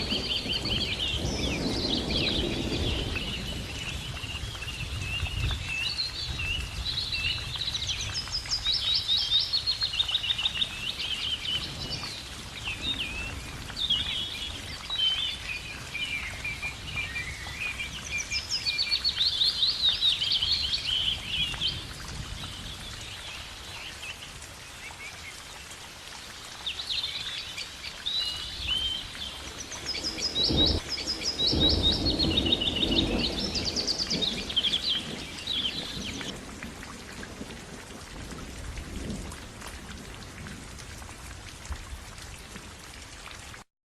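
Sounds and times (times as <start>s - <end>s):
songbirds singing trills: 0.0s - 25.7s, 26.5s - 36.4s.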